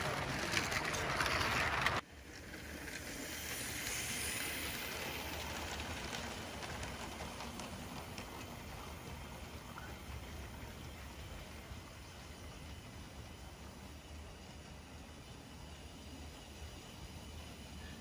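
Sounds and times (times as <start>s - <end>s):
toy train motor hum: 0.0s - 18.0s
toy train wheels clattering on track: 0.0s - 18.0s.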